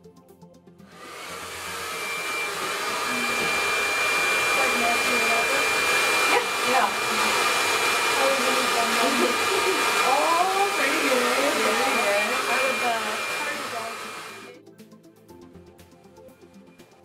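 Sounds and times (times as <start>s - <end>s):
hair dryer blowing with high whine: 0.8s - 14.6s.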